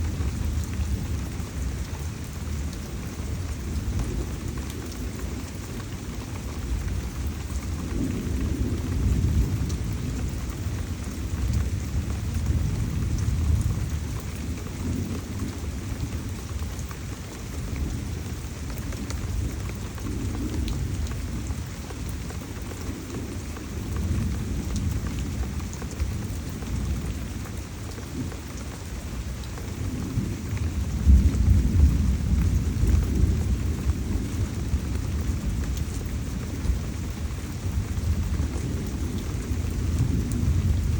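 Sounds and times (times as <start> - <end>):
heavy rain: 0.0 - 40.9
low rumbles of thunder: 0.0 - 40.9.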